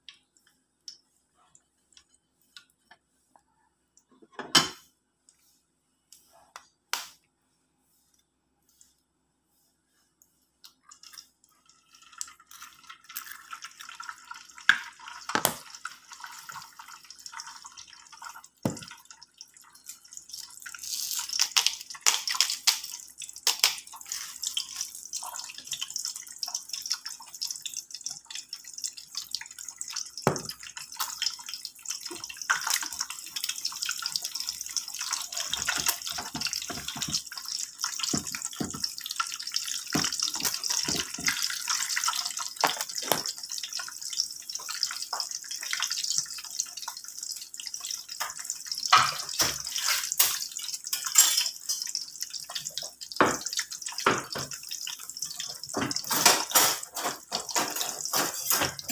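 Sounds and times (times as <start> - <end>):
egg sizzling in oil: 10.9 - 58.9.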